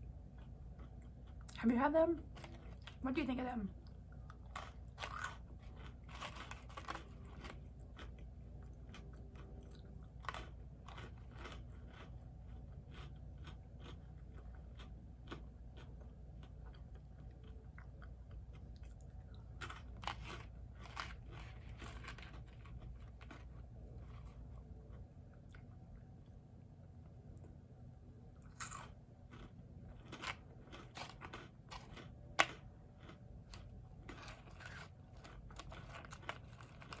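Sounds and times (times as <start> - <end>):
person chewing and crunching food: 0.0 - 1.6, 2.2 - 3.0, 3.7 - 27.6, 28.2 - 37.0.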